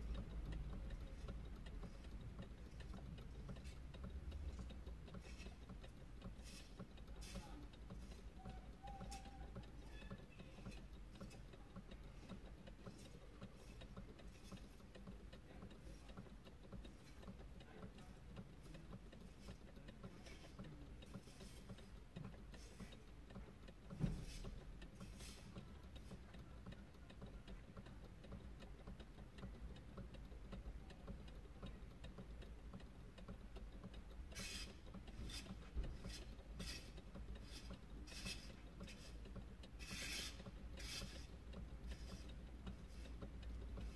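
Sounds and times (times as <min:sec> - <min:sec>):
faint clicks: 0:00.0 - 0:43.9.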